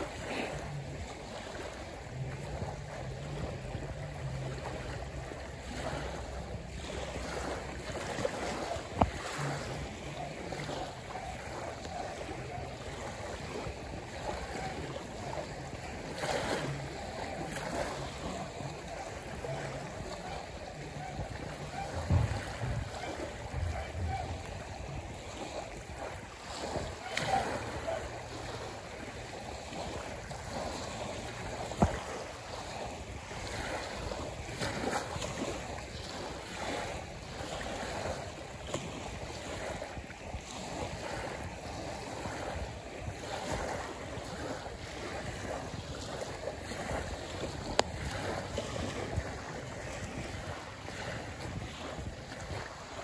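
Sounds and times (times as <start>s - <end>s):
small waves lapping on shore: 0.0s - 53.0s
wind buffeting microphone: 0.0s - 53.0s.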